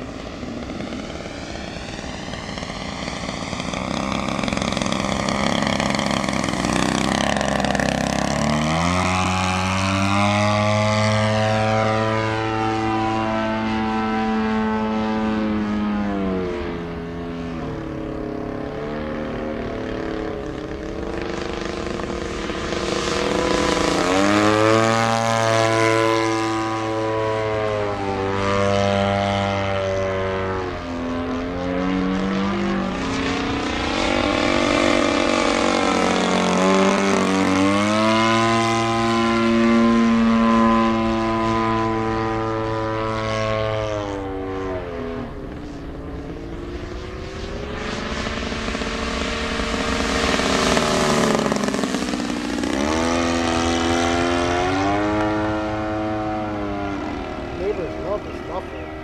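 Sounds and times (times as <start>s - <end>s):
model airplane engine and propeller: 0.0s - 59.0s.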